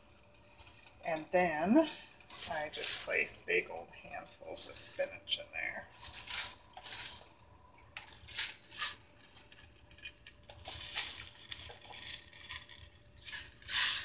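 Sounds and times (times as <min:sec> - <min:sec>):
spinach leaves rustling in a pan: 0:00.0 - 0:14.0.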